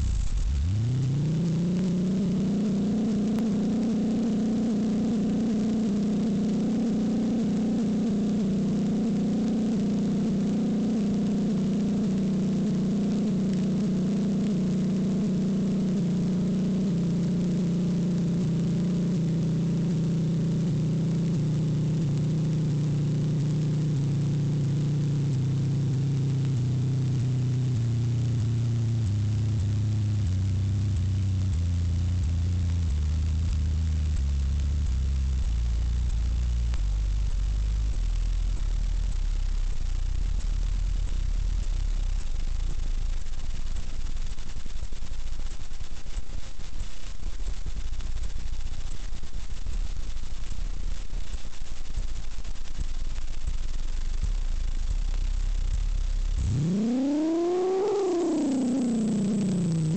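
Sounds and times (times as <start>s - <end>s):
loud steady hum: 0.0s - 59.9s.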